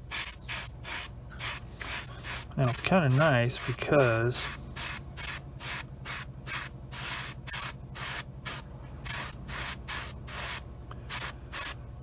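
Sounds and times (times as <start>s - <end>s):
airbrush spraying hiss: 0.0s - 11.8s
low steady hum: 0.0s - 12.0s.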